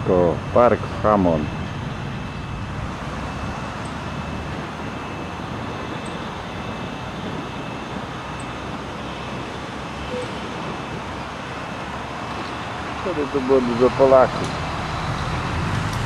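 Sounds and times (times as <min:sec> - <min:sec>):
road traffic rush: 0:00.0 - 0:16.0.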